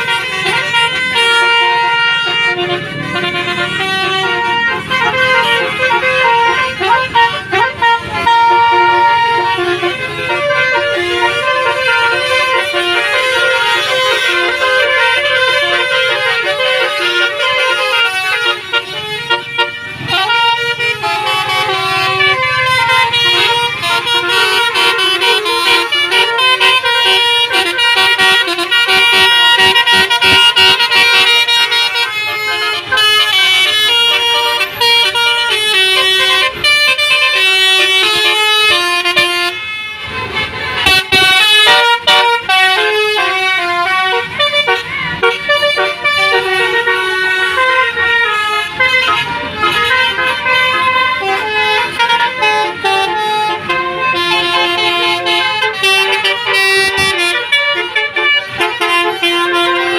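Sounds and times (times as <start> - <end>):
multi-tone air horns jingle: 0.0 - 59.9.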